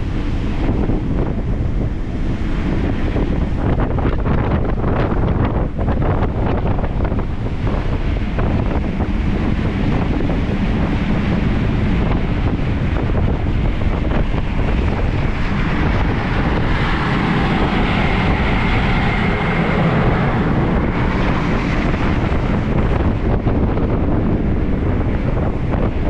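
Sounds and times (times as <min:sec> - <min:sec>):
sea rushing: 0:00.0 - 0:26.0
ship rumble: 0:00.0 - 0:26.0
wind buffeting microphone: 0:00.0 - 0:26.0.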